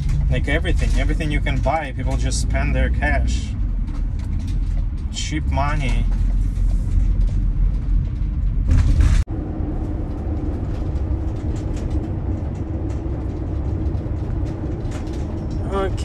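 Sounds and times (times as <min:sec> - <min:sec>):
car engine and road drone: 0:00.0 - 0:16.0.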